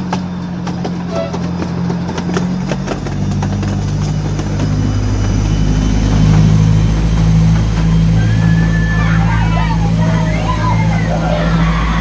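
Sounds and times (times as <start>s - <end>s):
train engine drone: 0.0s - 12.0s
wheels rumbling: 0.0s - 12.0s.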